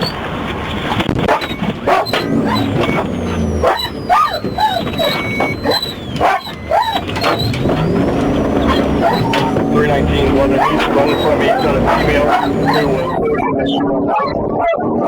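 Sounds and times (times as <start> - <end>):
vehicle engine rumble: 0.0 - 14.1
dog barking and yelping: 1.3 - 15.0.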